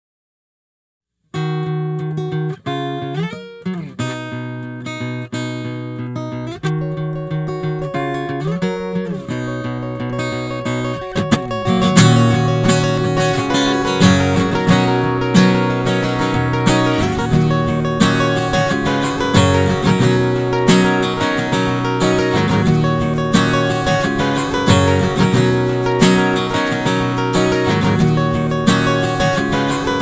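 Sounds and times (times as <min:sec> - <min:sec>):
acoustic guitar: 0:01.3 - 0:30.0.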